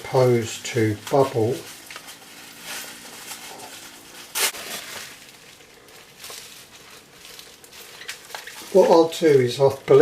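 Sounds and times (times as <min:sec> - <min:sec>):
tissue paper rustling: 0:01.1 - 0:09.5.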